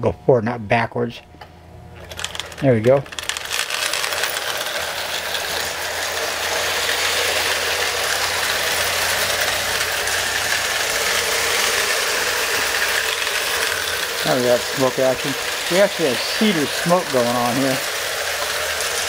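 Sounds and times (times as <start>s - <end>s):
gear and wheel rattle: 2.0s - 19.0s
toy train motor whirring: 2.0s - 19.0s.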